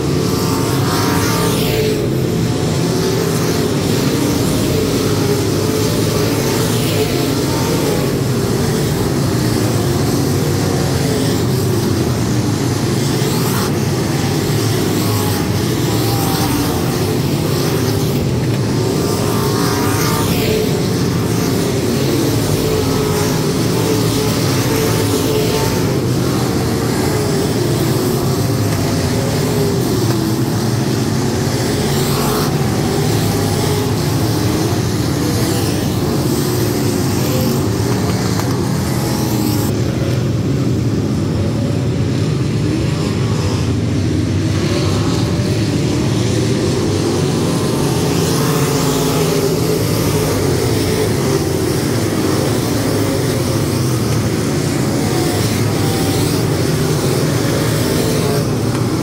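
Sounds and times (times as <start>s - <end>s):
race car engines circling: 0.0s - 59.0s.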